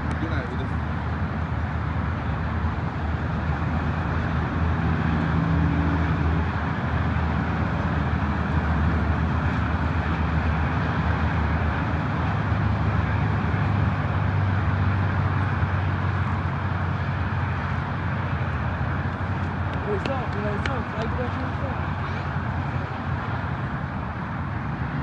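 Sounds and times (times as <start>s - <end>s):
constant noisy hiss: 0.0s - 25.0s
engine drone: 0.0s - 25.0s.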